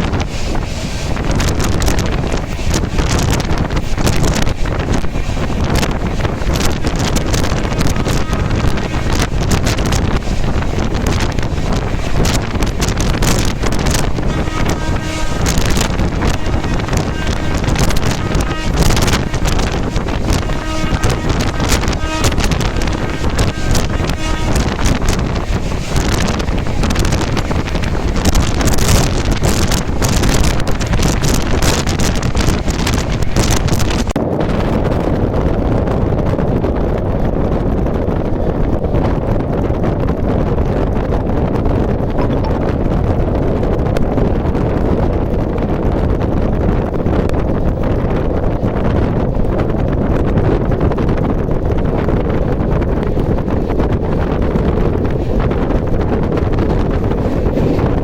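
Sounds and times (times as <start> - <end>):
rumble of moving traffic: 0.0 - 58.0
strong wind buffeting microphone: 0.0 - 58.0.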